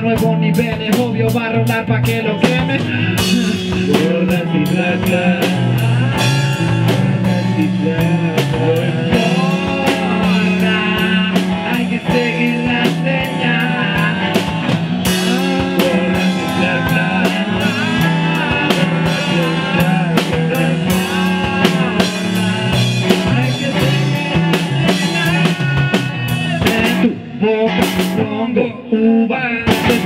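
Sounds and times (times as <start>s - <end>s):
drum kit beat: 0.0s - 28.6s, 29.7s - 30.0s
bass guitar: 0.0s - 30.0s
electric guitar: 0.0s - 30.0s.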